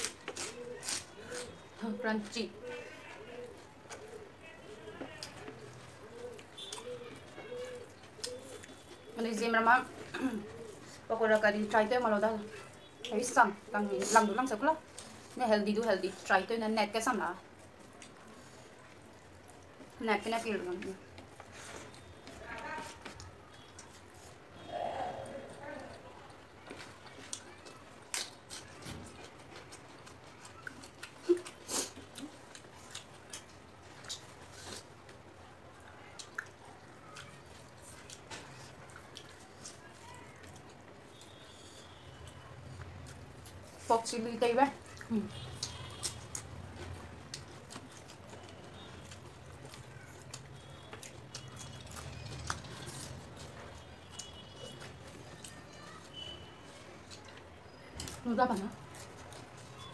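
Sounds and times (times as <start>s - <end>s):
chewing and lip-smacking: 0.0s - 9.2s, 17.4s - 20.0s, 20.8s - 43.9s, 44.7s - 59.9s.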